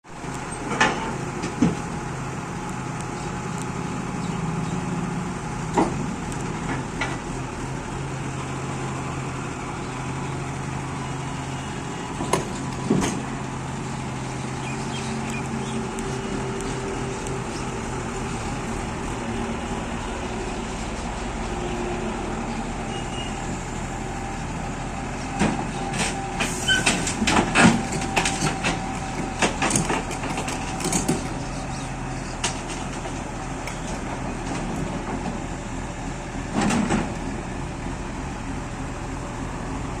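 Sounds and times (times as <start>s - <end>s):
diesel engine running: 0.1s - 40.0s.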